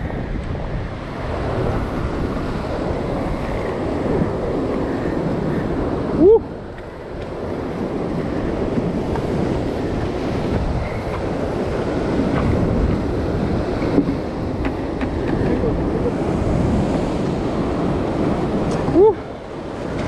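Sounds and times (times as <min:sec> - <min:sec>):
ocean surf breaking on rocks: 0:00.0 - 0:20.0
wind buffeting microphone: 0:00.0 - 0:20.0.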